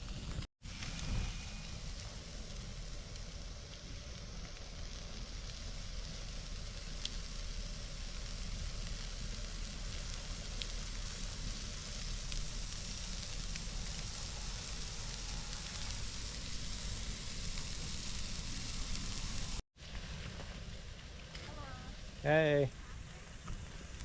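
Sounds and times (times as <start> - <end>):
burgers sizzling: 0.0 - 24.0.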